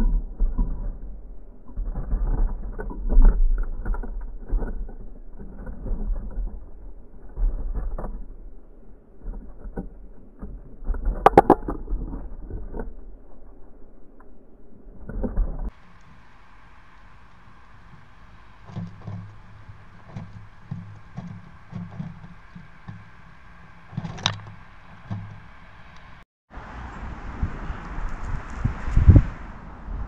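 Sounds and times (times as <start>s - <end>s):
birds pecking seed on wooden tray: 0.0s - 13.0s, 15.1s - 26.2s.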